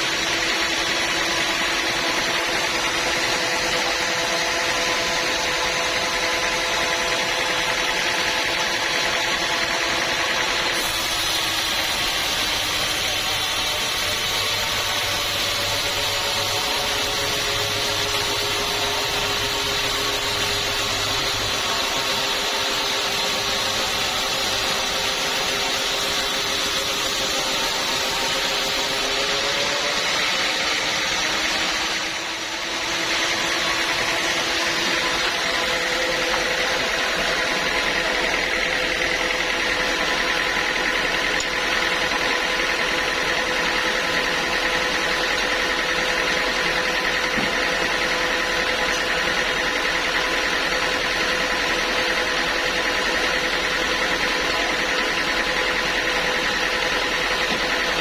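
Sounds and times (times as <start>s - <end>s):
bandsaw cutting wood: 0.0s - 58.0s
engine running: 0.0s - 58.0s.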